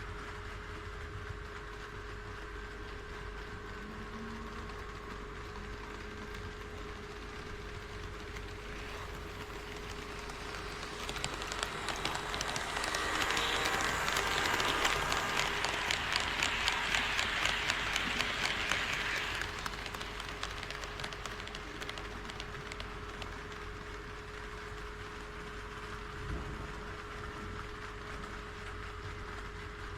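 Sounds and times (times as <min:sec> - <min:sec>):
model train wheels clicking on rails: 0:00.4 - 0:26.1.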